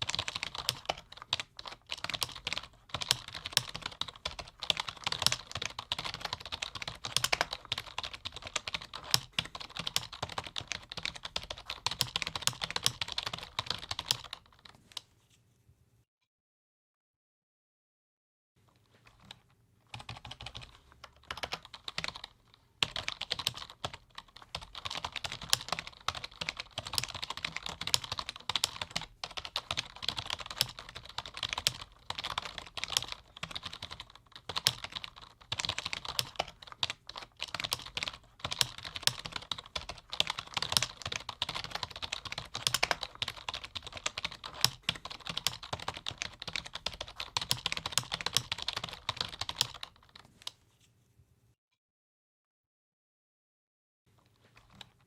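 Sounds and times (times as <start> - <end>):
computer keyboard typing: 0.0 - 14.7, 19.0 - 50.3, 54.3 - 55.0.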